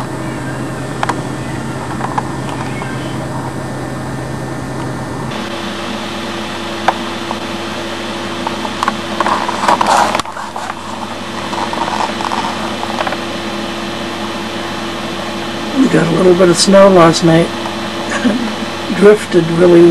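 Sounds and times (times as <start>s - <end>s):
steady mechanical hum: 0.0s - 19.9s.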